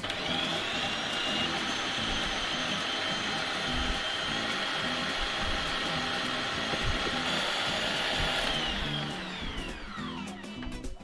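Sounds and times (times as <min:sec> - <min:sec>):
blender running: 0:00.0 - 0:10.9.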